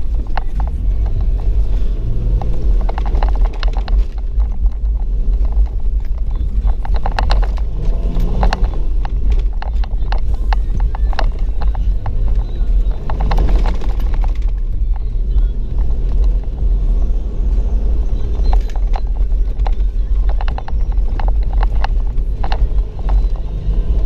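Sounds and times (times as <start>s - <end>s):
knocks and rattles: 0.0s - 24.0s
vehicle rumbling on rough track: 0.0s - 24.0s.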